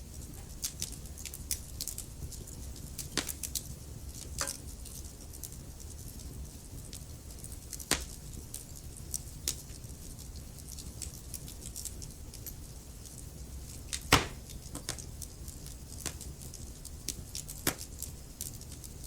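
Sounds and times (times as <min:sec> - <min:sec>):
low steady rumble: 0:00.0 - 0:19.0
wood fire crackling: 0:00.0 - 0:19.0.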